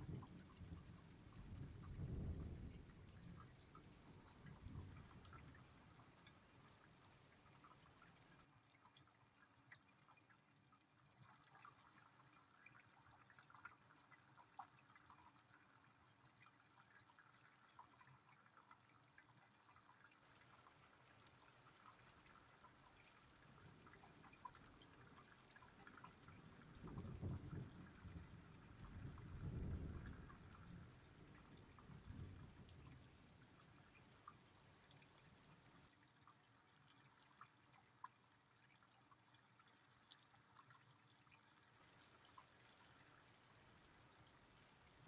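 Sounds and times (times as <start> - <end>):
faint rain patter: 0.0 - 45.0
small drips: 0.0 - 45.0.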